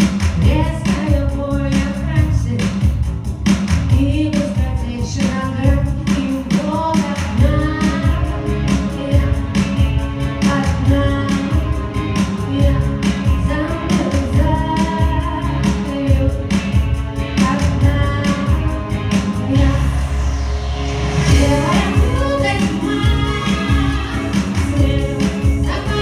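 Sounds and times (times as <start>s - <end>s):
woman singing pop song: 0.0s - 3.2s, 3.8s - 20.5s, 21.1s - 26.0s
backing track with steady beat: 0.0s - 26.0s.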